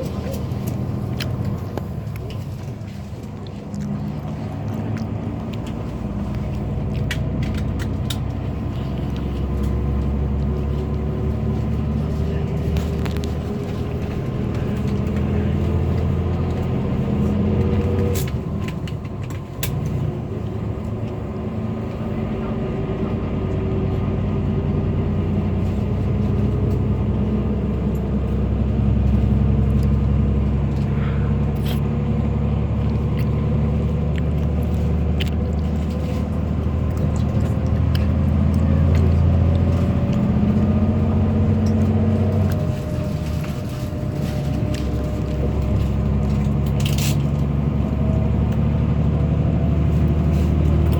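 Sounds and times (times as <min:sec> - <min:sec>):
bus engine and road rumble: 0:00.0 - 0:50.9.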